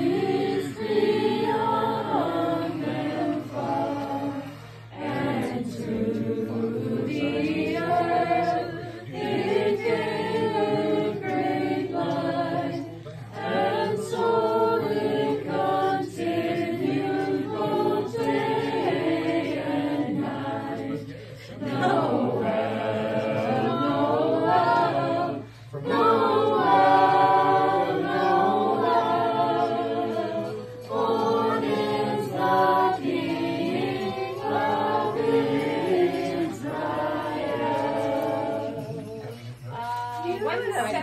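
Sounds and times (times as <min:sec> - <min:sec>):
group singing a carol: 0:00.0 - 0:41.0.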